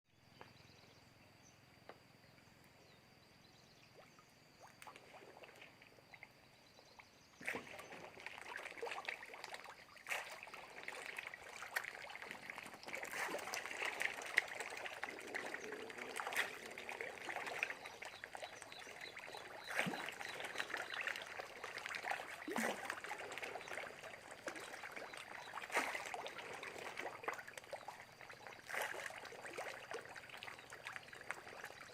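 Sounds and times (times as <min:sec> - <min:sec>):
water splashing and trickling: 0:04.0 - 0:31.9.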